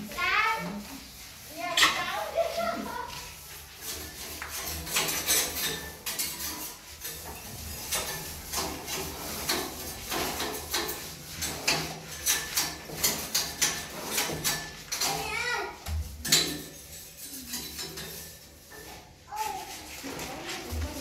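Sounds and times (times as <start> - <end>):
paint rollers clicking on wall: 0.0 - 21.0.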